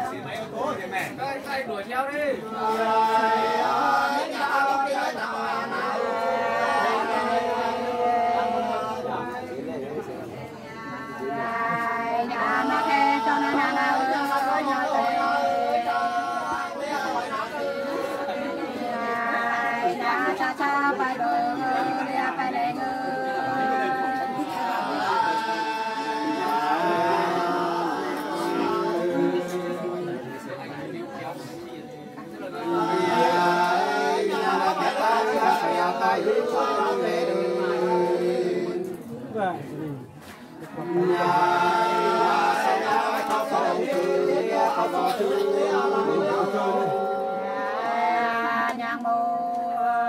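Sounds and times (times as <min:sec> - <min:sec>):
women singing unaccompanied: 0:02.4 - 0:09.6, 0:10.5 - 0:30.5, 0:31.3 - 0:39.1, 0:40.7 - 0:50.0.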